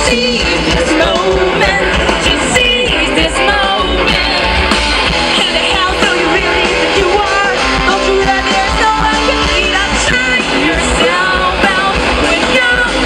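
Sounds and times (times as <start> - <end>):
person singing: 0.0 - 4.6, 5.3 - 13.0
guitar: 0.0 - 13.0
pop-rock music: 0.0 - 13.0
steady drum beat: 0.0 - 13.0.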